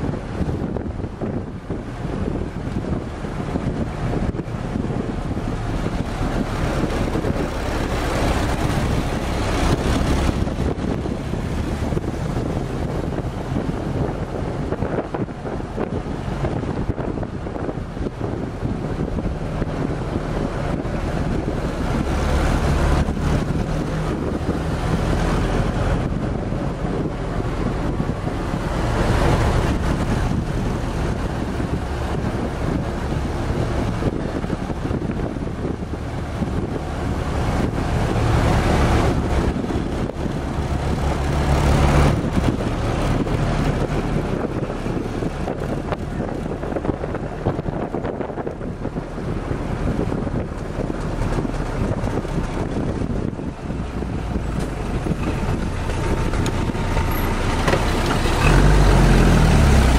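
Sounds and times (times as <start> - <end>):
jeep engine running: 0.0 - 59.9
wind buffeting microphone: 0.0 - 59.9.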